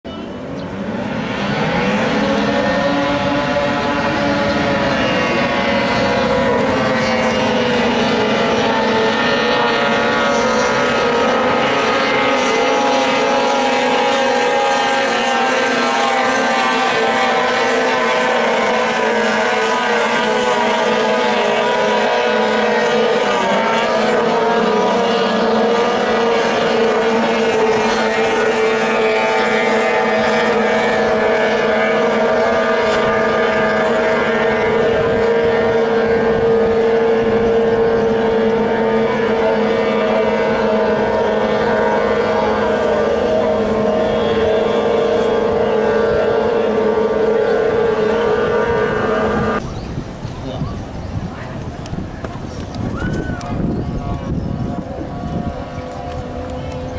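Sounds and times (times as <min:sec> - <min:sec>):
racing boat engines whining: 0:00.0 - 0:56.9.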